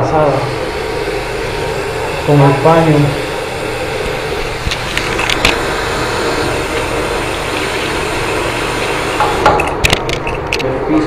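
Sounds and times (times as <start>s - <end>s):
tap water running into sink: 0.0s - 10.6s.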